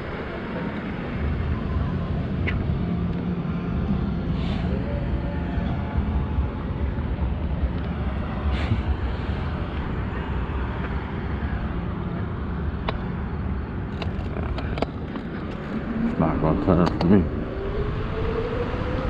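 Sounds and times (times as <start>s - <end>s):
road noise rumble: 0.0s - 19.0s
wind rushing over microphone: 0.0s - 19.0s.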